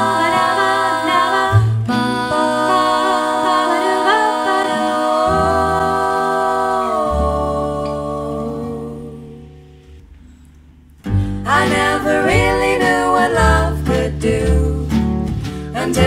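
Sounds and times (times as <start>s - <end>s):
vocal group singing harmony: 0.0s - 9.8s, 11.2s - 16.0s.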